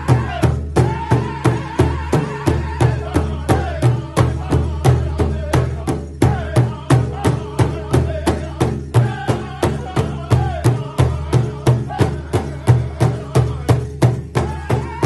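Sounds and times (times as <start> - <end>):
group singing in high voices: 0.0 - 13.8, 14.4 - 15.0
large drum steady beat: 0.0 - 15.0.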